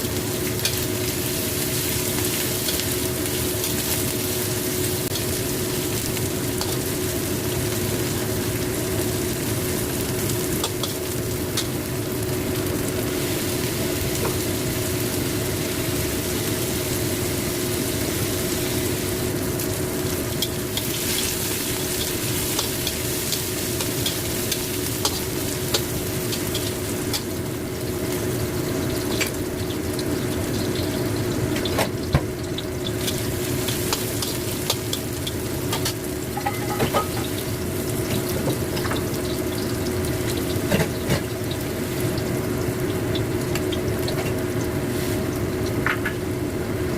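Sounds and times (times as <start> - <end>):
food sizzling in hot oil: 0.0 - 46.9.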